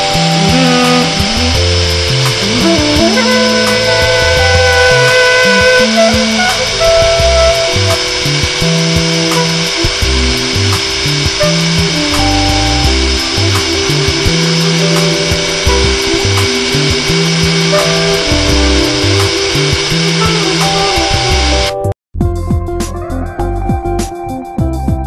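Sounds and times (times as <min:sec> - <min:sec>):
jet engines idling whine: 0:00.0 - 0:21.7
synthesizer background music: 0:00.0 - 0:25.0.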